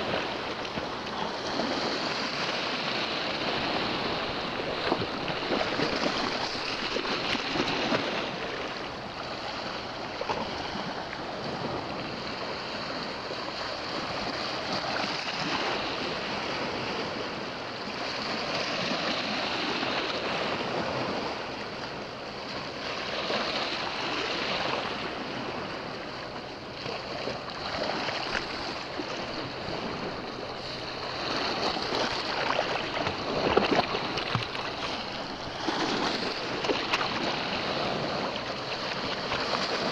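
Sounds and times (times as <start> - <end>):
waves washing over rocks: 0.0 - 39.9.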